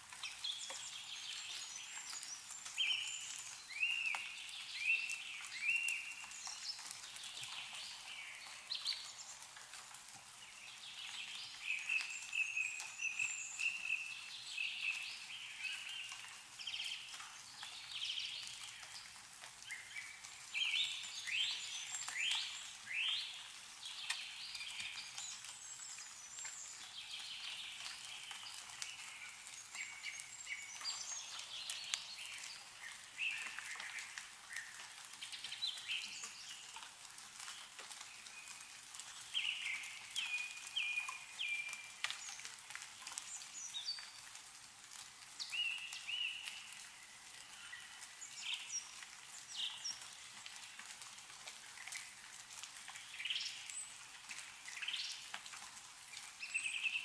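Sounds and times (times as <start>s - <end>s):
water dripping from trees: 0.0s - 57.0s
small birds singing and chirping: 0.2s - 9.6s, 10.3s - 44.4s, 45.4s - 50.8s, 52.9s - 55.4s, 56.1s - 57.0s.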